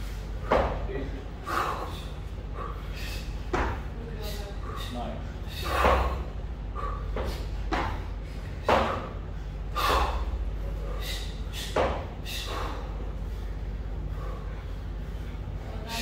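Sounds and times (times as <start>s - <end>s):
man breathing hard: 0.0s - 16.0s.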